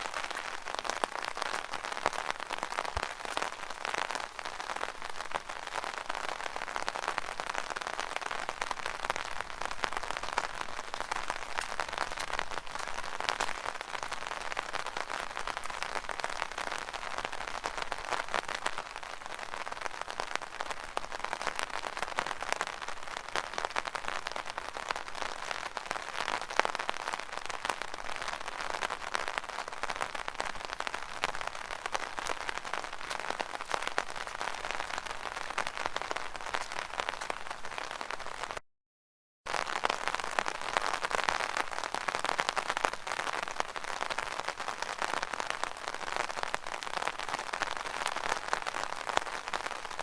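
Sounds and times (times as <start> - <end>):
rain pattering on umbrella: 0.0 - 38.6, 39.5 - 50.0.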